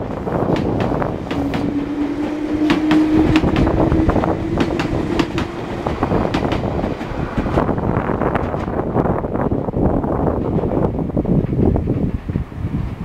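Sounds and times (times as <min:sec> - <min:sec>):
train motor hum: 0:00.0 - 0:10.9
train wheels clicking over rail joints: 0:00.0 - 0:13.0.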